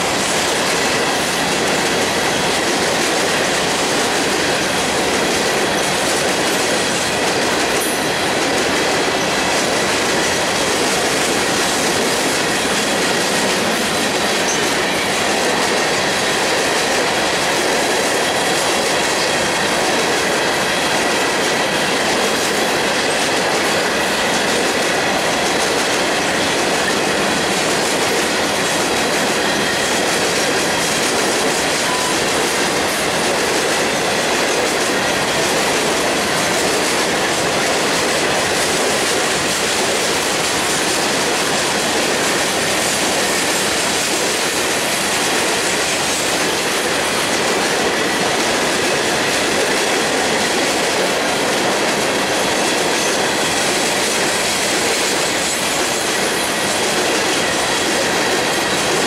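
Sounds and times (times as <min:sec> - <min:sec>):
steel wheels rolling on rail: 0:00.0 - 0:59.0.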